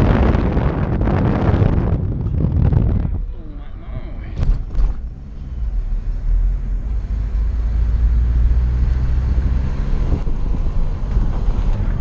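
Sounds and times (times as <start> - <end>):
car rumbling on rough road: 0.0 - 12.0.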